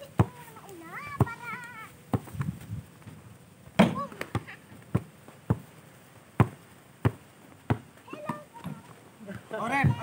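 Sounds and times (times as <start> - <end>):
basketball bouncing on dirt: 0.0 - 10.0.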